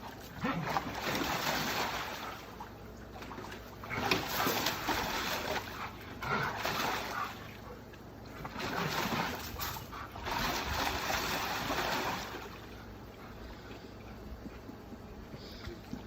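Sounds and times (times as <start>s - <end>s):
water splashing in dog pool: 0.0s - 16.0s.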